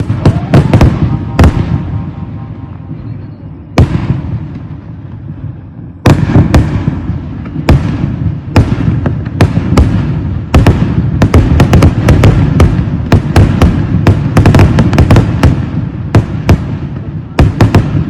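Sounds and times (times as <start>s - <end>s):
continuous low rumble: 0.0s - 18.0s
fireworks bangs: 0.0s - 18.0s.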